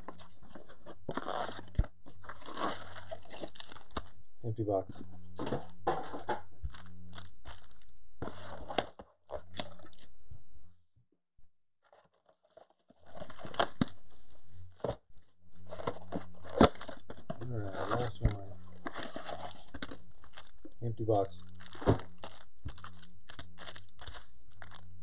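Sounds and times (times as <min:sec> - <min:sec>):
plastic wrap crinkling: 0:00.0 - 0:04.2, 0:06.6 - 0:10.1, 0:11.8 - 0:14.9, 0:15.6 - 0:25.0.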